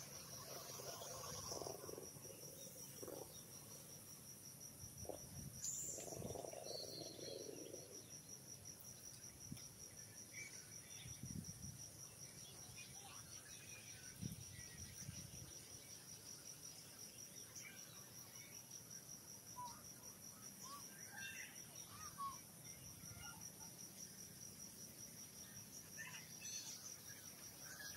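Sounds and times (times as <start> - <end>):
insects trilling: 0.0 - 27.9.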